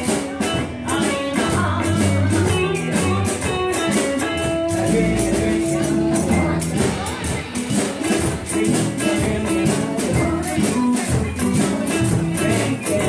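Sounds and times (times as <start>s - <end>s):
live blues band playing: 0.0s - 13.0s.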